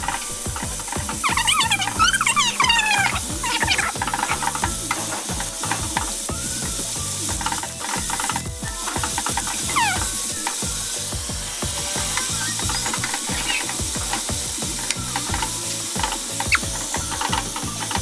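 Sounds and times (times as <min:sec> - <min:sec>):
food sizzling in a frying pan: 0:00.0 - 0:18.0
high squeaky chirps: 0:00.0 - 0:18.0
stirring and scraping ticks: 0:00.0 - 0:18.0.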